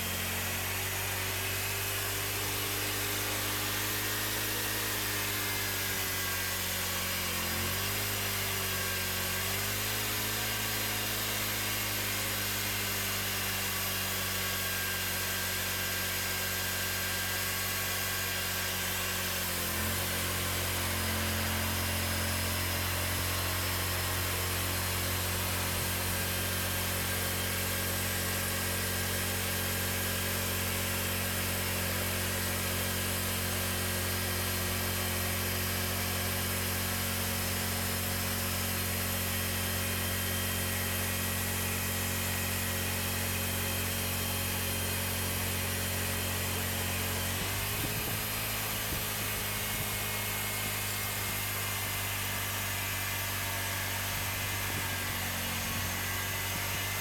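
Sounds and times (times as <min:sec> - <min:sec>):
band sawmill sawing log: 0:00.0 - 0:57.0.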